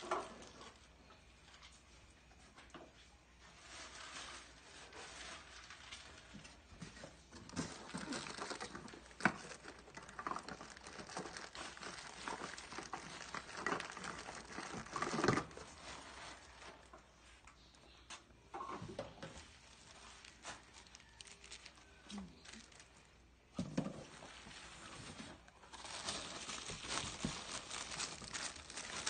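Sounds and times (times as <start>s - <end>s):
rustling of plastic and cardboard: 0.0s - 17.8s, 18.5s - 29.0s.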